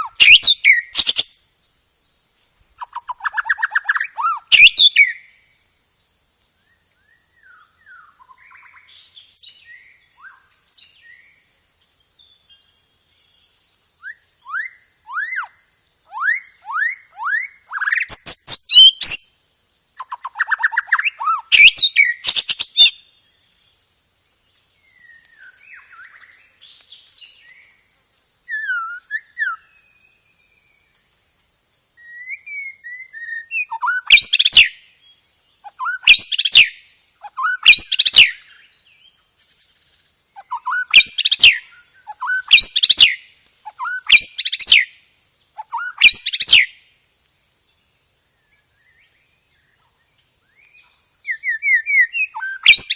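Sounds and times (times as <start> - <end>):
bird singing: 0.0 - 52.9.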